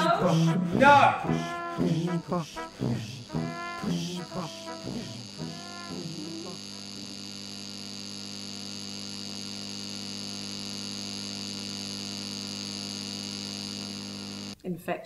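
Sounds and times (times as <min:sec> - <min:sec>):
pulsing drone of held tones: 0:00.0 - 0:14.6.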